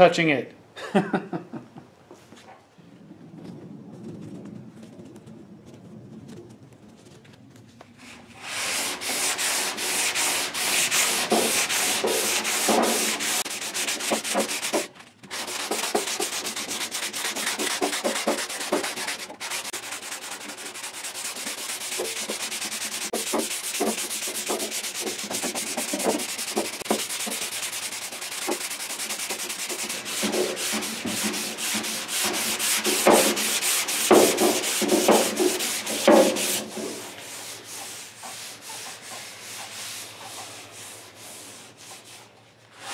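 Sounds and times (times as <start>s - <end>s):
sandpaper rasping on filler: 8.0s - 42.9s.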